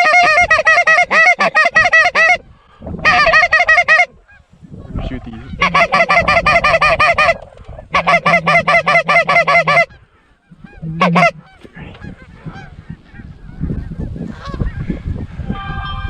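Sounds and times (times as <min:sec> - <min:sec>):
goose call clucks: 0:00.0 - 0:02.4, 0:03.0 - 0:04.4, 0:05.3 - 0:14.9
faint goose honking: 0:00.0 - 0:15.0.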